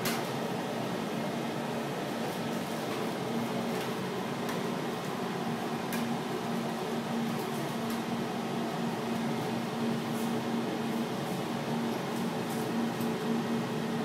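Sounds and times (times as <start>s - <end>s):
aerial tramway cabin mechanical hum: 0.0s - 14.0s.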